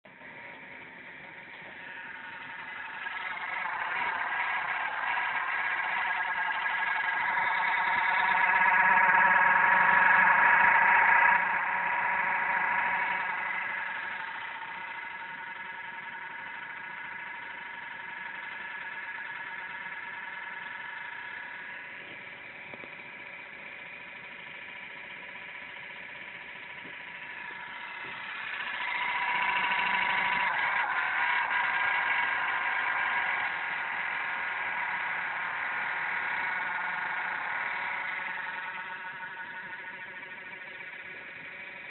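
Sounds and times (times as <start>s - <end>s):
laptop cooling fan whirring roughly: 0.0s - 41.9s.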